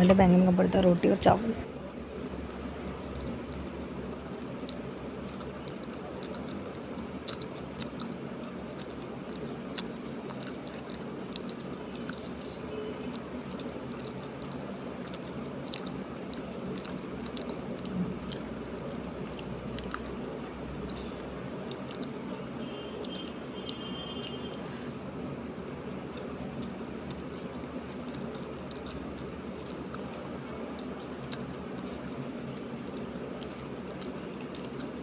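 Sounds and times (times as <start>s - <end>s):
person chewing food: 1.8s - 25.0s, 25.6s - 35.0s.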